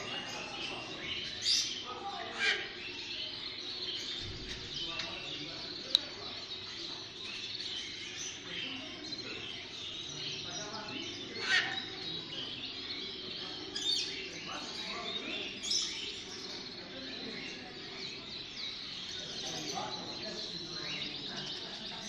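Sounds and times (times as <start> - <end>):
caged birds chirping: 0.0 - 22.0.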